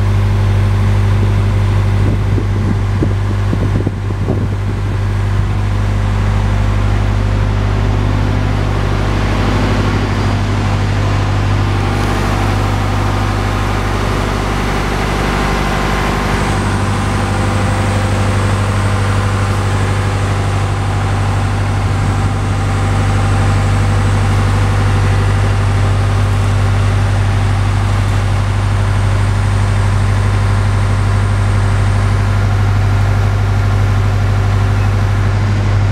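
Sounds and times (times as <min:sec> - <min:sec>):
drill rig engine humming: 0:00.0 - 0:35.9.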